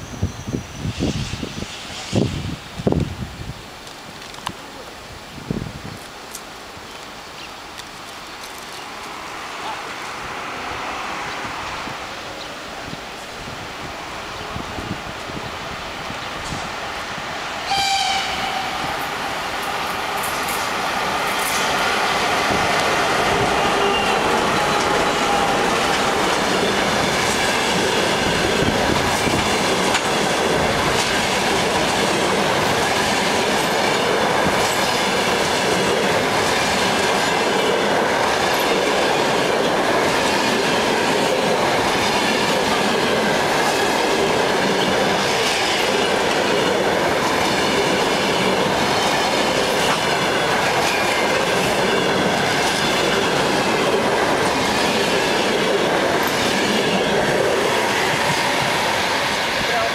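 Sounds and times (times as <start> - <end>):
train rolling rush: 0.0 - 59.9.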